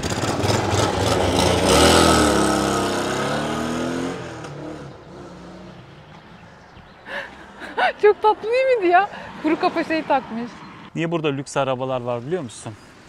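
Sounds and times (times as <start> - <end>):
car driving past: 0.1 - 11.0.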